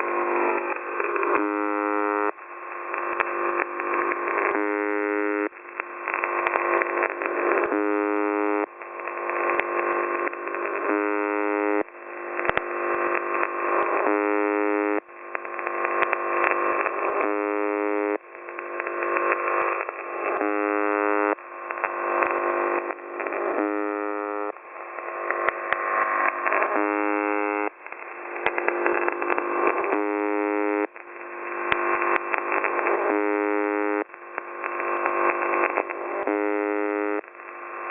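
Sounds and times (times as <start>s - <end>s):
distorted shortwave radio noise: 0.0s - 37.9s
steady buzz tone: 0.0s - 37.9s.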